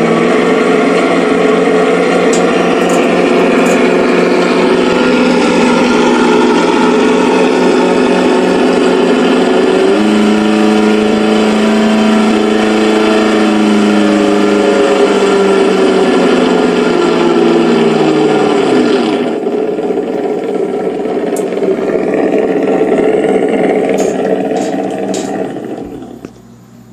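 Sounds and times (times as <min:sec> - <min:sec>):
simulated engine sound from speaker: 0:00.0 - 0:26.9.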